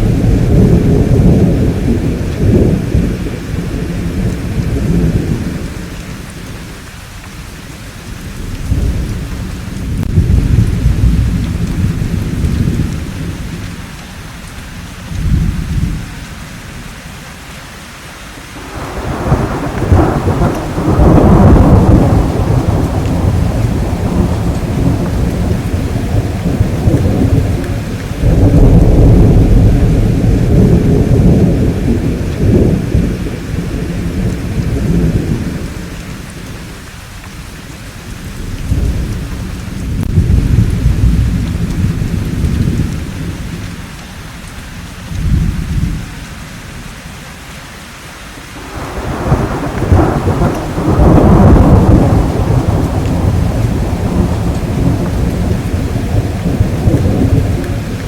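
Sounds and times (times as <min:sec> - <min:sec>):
rolling thunder: 0:00.0 - 0:06.8, 0:08.0 - 0:14.0, 0:14.8 - 0:16.1, 0:18.6 - 0:36.9, 0:38.1 - 0:43.9, 0:45.0 - 0:46.1, 0:48.6 - 0:58.0
steady rain: 0:00.0 - 0:58.0.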